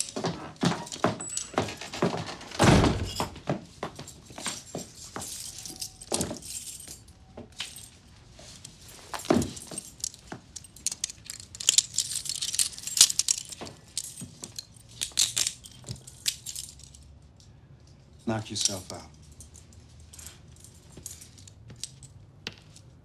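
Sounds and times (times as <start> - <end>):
handcuffs clinking and clicking: 0.0 - 2.5, 3.9 - 23.0.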